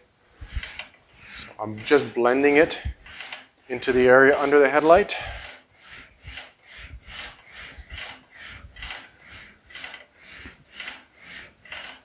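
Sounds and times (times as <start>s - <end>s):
english wheel rolling sheet metal: 0.4s - 12.0s.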